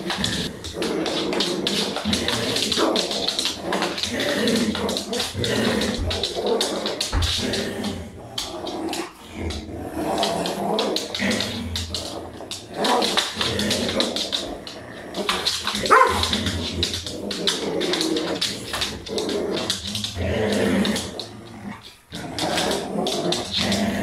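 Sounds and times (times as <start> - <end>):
dog growling: 0.0 - 24.0.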